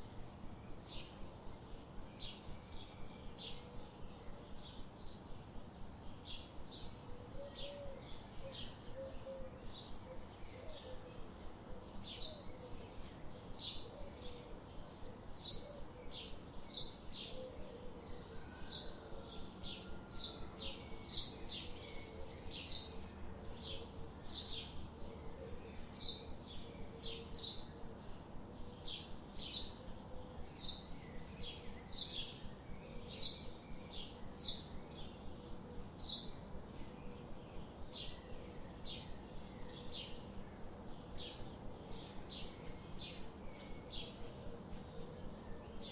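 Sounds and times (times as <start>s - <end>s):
faint background hiss: 0.0s - 45.9s.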